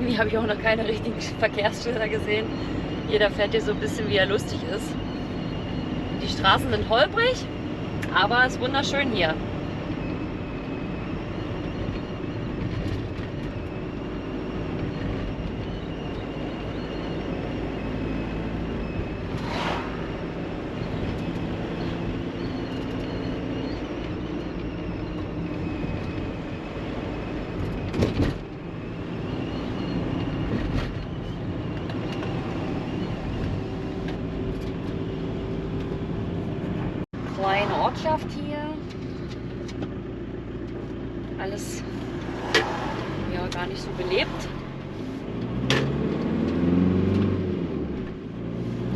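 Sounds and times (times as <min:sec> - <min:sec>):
van road and engine rumble: 0:00.0 - 0:48.9.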